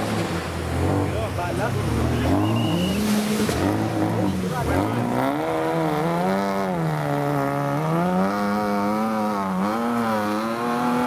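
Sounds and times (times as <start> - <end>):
off-road vehicle engine under load: 0.0 - 11.0.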